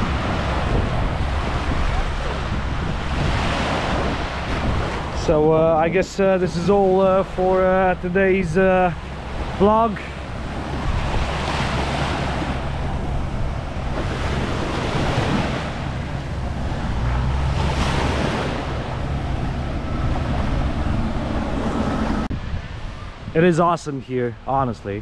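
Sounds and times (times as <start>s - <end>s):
waves breaking on sandy shore: 0.0s - 25.0s
wind buffeting microphone: 0.0s - 25.0s.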